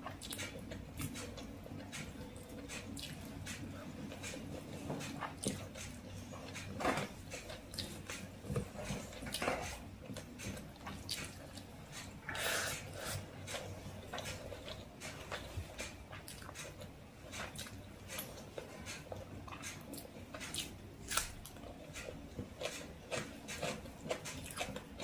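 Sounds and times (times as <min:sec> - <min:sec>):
wet chewing and lip smacking: 0:00.0 - 0:25.0.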